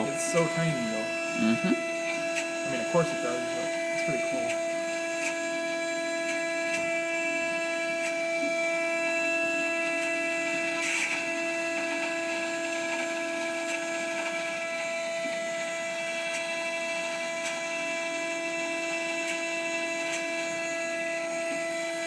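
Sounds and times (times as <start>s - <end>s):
mill spindle whine: 0.0s - 22.0s.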